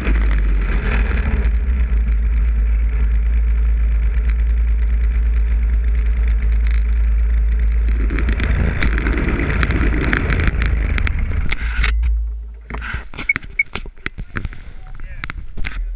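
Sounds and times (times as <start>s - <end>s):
snowmobile engine idling: 0.0s - 13.4s.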